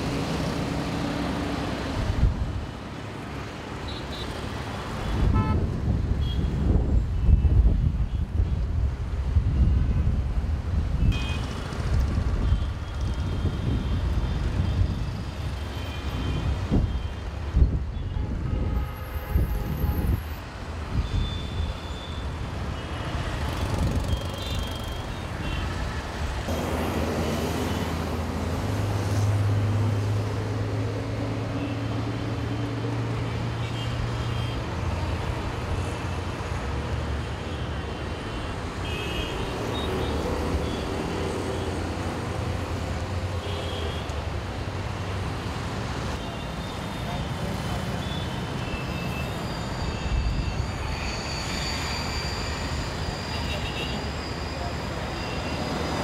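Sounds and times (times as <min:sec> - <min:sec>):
traffic engine drone: 0:00.0 - 0:56.0.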